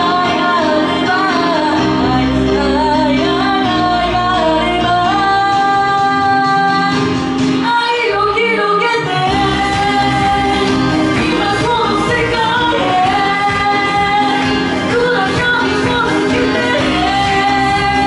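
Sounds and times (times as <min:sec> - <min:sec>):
pop backing track with deep bass: 0:00.0 - 0:18.0
woman singing through microphone: 0:00.0 - 0:18.0.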